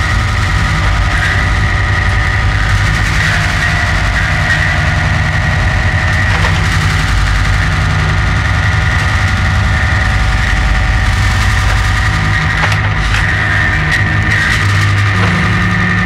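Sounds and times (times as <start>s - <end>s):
mechanical hum with low drone: 0.0s - 16.0s
thin high whine: 0.0s - 16.0s.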